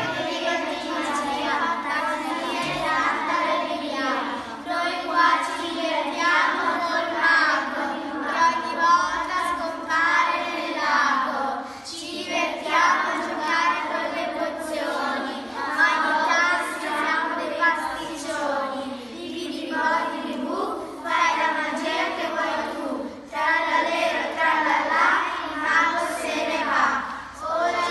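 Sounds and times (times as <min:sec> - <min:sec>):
children singing in unison: 0:00.0 - 0:27.9.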